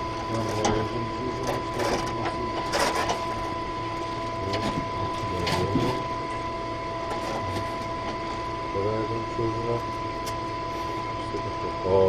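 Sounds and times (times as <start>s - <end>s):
ventilation fans humming and whining: 0.0s - 12.0s.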